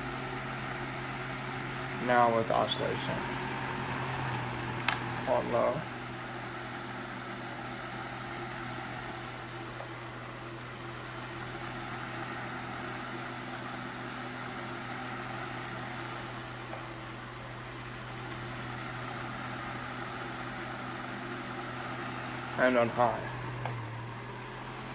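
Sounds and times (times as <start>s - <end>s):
fan air rushing: 0.0s - 24.9s
low motor hum: 0.0s - 24.9s.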